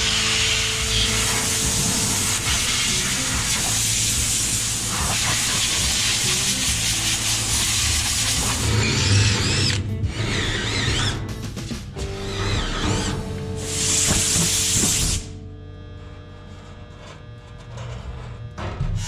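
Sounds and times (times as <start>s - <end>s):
angle grinder grinding metal: 0.0s - 11.3s, 12.0s - 19.0s.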